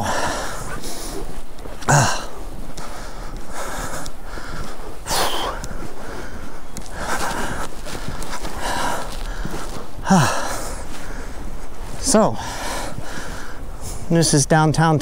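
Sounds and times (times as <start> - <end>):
man breathing hard: 0.0 - 14.1
footsteps crunching in snow: 0.0 - 15.0.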